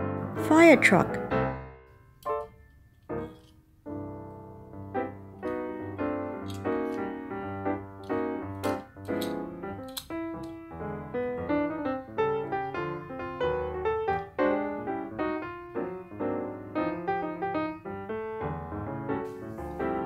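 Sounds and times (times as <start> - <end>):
light piano music: 0.0 - 20.0.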